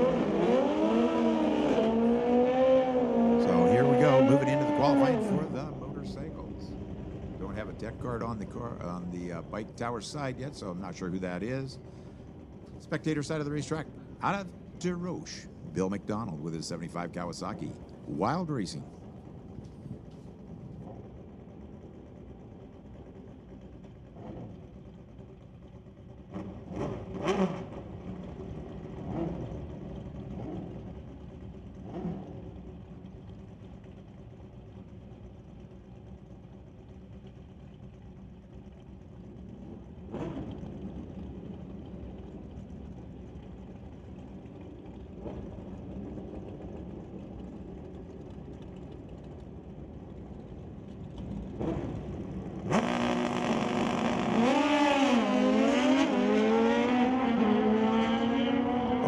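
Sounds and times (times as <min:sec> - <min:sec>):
distant motorcycle engines revving: 0:00.0 - 0:34.6, 0:35.5 - 0:59.0.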